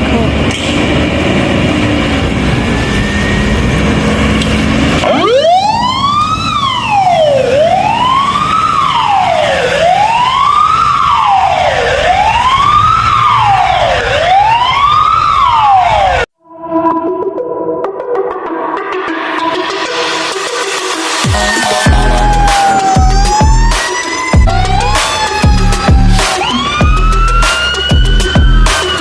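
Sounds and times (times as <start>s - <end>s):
fire truck engine rumble: 0.0s - 16.3s, 21.9s - 29.0s
siren wailing: 1.6s - 17.2s, 19.0s - 29.0s.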